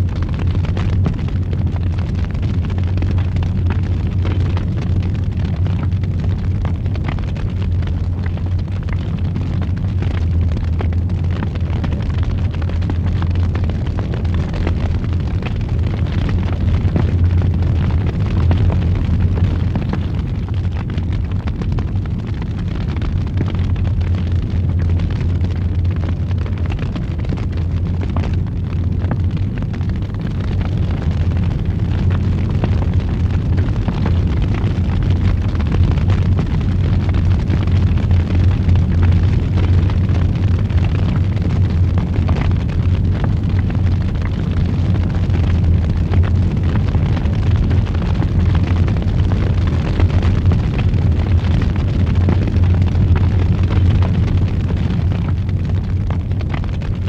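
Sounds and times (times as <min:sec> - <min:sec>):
faint fire crackles: 0:00.0 - 0:57.0
fire roaring: 0:00.0 - 0:57.0.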